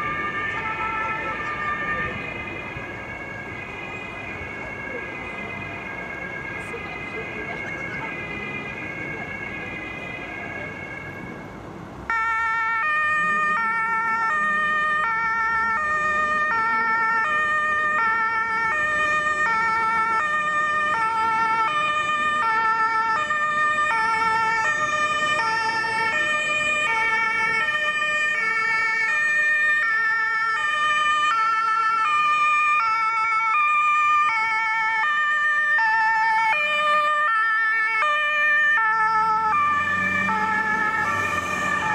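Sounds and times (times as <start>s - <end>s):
two-tone emergency siren: 0.0s - 41.9s.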